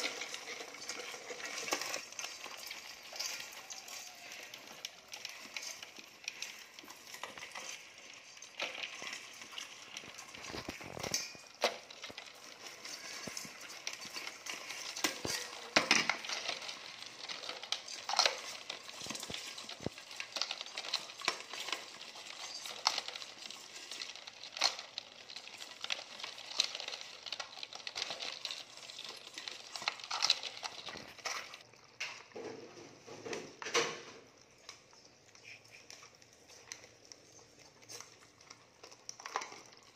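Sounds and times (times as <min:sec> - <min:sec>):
crabs clicking against metal bowl: 0:00.0 - 0:32.4, 0:33.4 - 0:39.9.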